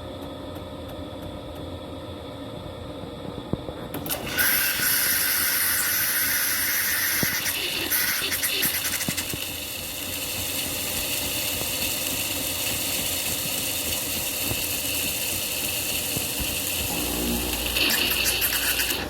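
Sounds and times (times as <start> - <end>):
espresso machine humming and hissing: 0.7 - 19.0.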